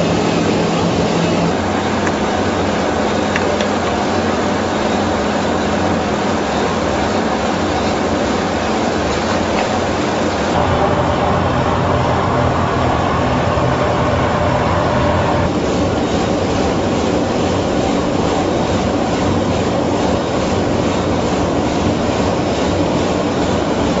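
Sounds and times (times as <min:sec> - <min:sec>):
vegetable washing machine rumbling: 0:00.0 - 0:24.0.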